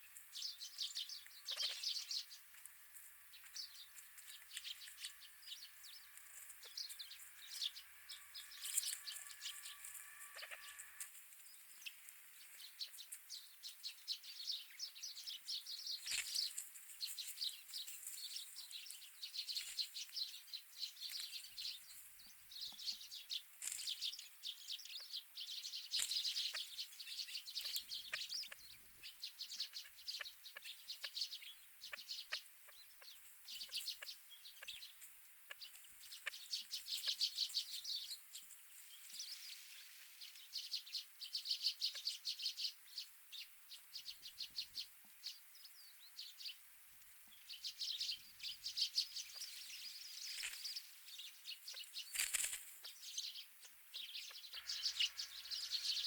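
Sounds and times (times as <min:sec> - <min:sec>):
wild birds chirping: 0:00.0 - 0:56.0.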